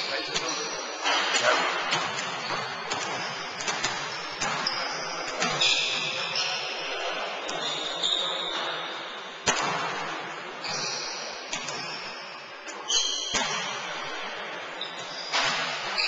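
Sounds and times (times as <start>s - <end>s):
basketballs bouncing: 0.0s - 8.8s, 9.4s - 14.4s
sneakers squeaking on court: 0.0s - 16.0s.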